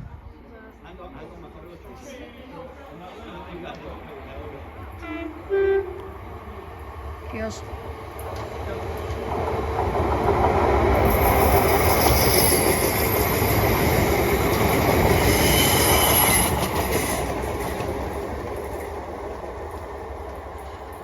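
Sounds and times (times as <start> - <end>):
electric train passing at speed: 0.0 - 21.0
wheel and rail noise: 2.1 - 21.0.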